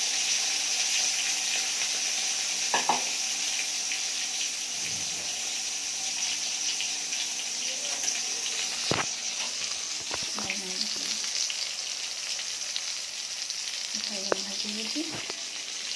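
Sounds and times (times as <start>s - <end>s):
slices sizzling in hot oil: 0.0s - 15.9s.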